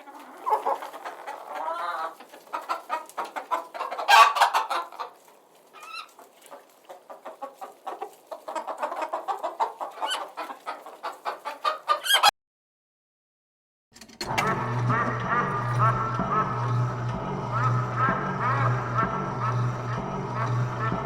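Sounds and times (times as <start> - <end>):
chickens clucking: 0.0 - 12.3, 14.3 - 21.0.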